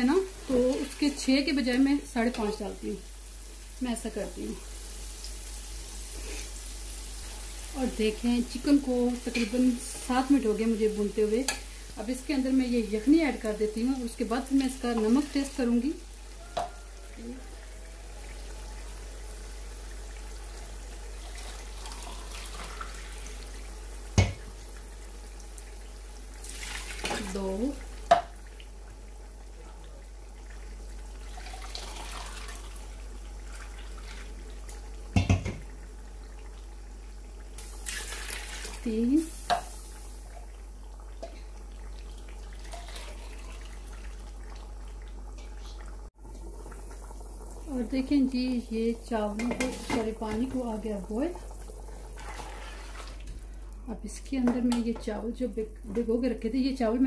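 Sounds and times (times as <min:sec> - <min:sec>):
chicken sizzling in a pot: 0:00.0 - 0:57.0.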